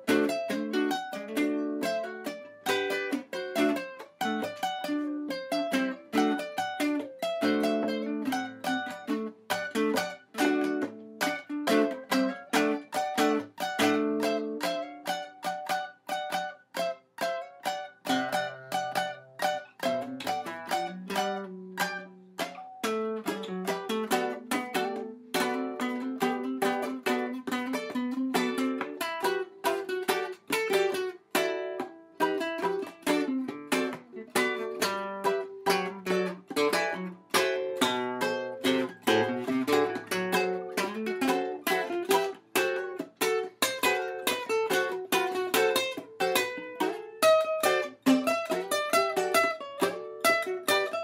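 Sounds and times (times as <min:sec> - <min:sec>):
plucked-string instrumental: 0:00.0 - 0:51.0.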